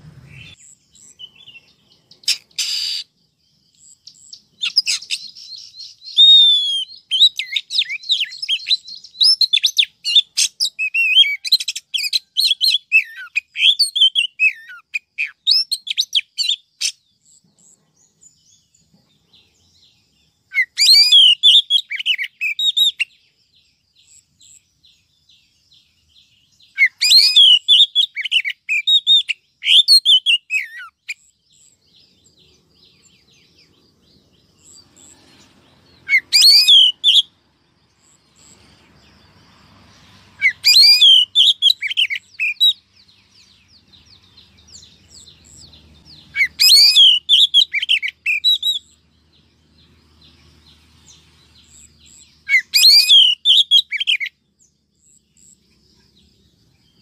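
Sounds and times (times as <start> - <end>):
bird singing whistles and trills: 0.0 - 57.0.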